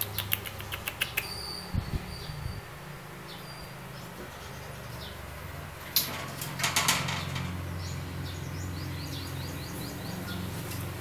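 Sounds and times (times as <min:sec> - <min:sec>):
bird chirping: 0:00.0 - 0:05.3, 0:07.2 - 0:10.9.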